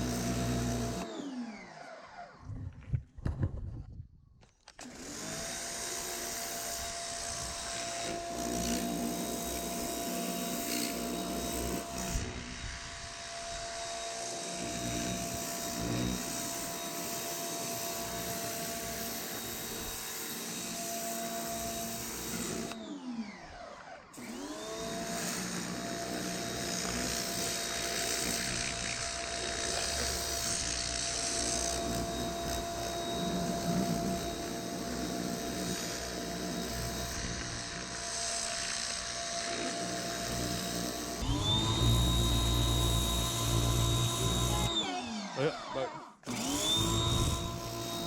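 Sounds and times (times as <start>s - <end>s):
pressure washer motor whine: 0.0s - 2.5s, 4.8s - 48.0s.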